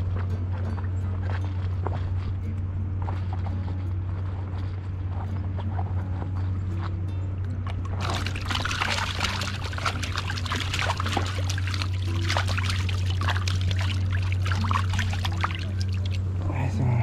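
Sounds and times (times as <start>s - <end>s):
river water splashing and trickling: 0.0s - 16.6s
steady low rumble: 0.0s - 17.0s.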